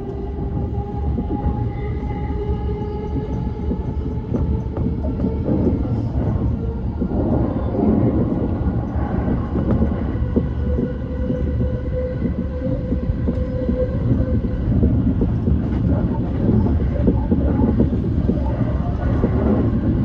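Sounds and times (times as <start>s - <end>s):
wheels rumbling on rail: 0.0s - 20.0s.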